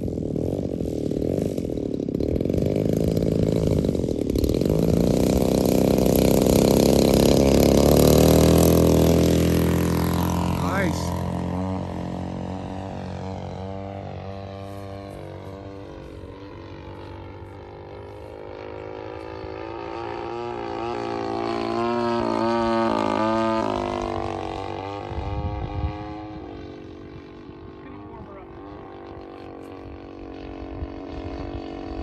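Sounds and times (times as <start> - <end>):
low rumbling: 0.0 - 32.0
model plane engine: 0.0 - 32.0.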